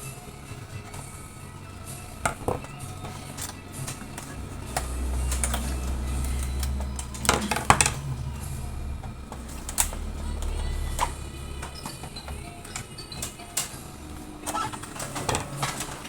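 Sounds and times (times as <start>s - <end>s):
low steady hum: 0.0s - 16.0s
plastic and metal parts clicking: 0.0s - 16.0s.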